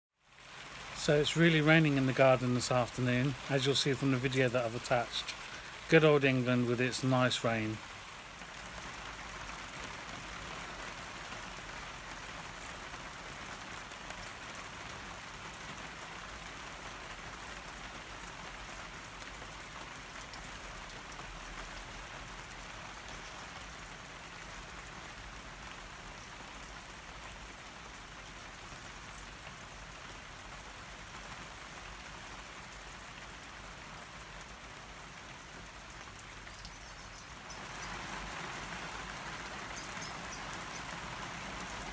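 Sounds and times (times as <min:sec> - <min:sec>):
rain on a plastic roof: 0:00.1 - 0:41.9.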